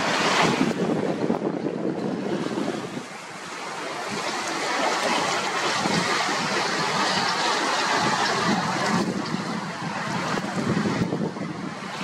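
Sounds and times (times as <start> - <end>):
choppy lake water: 0.0 - 12.0
strong wind: 0.0 - 12.0.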